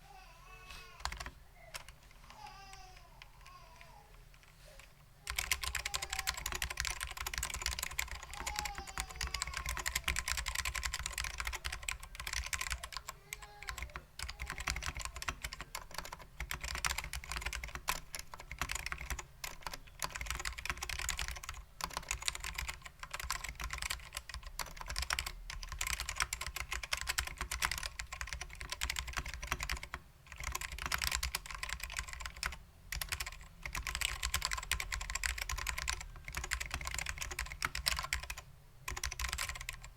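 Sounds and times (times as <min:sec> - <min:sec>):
fast keyboard typing clacks: 0:01.0 - 0:01.9, 0:05.3 - 0:39.9.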